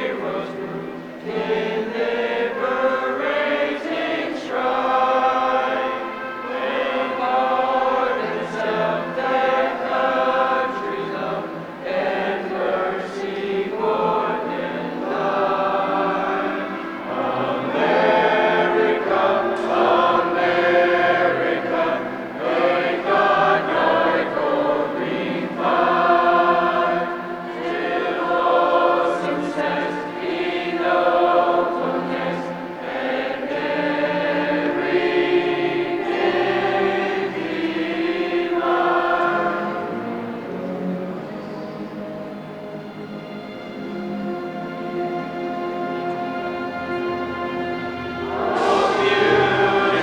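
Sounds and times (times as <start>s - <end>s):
choir singing: 0.0s - 50.0s.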